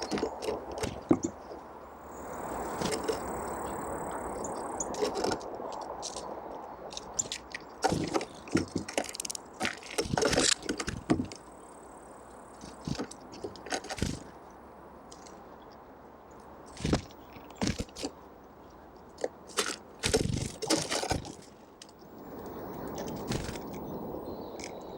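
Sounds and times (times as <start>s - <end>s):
birds pecking and cracking seeds: 0.0s - 24.9s.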